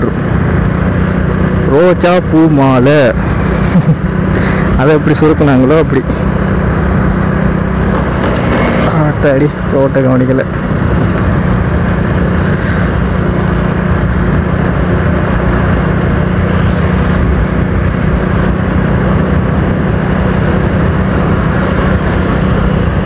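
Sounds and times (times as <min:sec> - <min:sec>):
motorcycle engine hum: 0:00.0 - 0:23.0
wind and road noise: 0:00.0 - 0:23.0.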